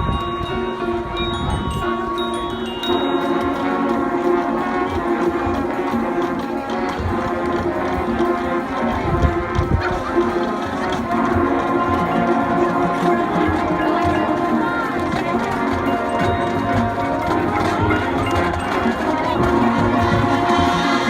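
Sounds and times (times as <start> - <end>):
marching band playing chords: 0.0 - 21.0.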